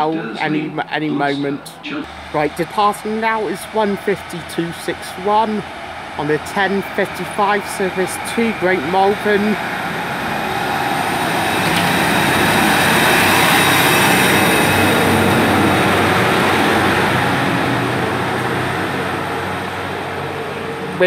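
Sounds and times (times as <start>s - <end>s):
train engine and wheel noise: 0.0s - 21.0s.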